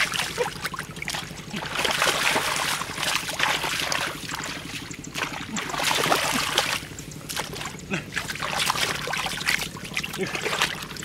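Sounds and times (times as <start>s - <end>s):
hands splashing in muddy water: 0.0s - 11.0s
steady low hum: 0.0s - 11.0s.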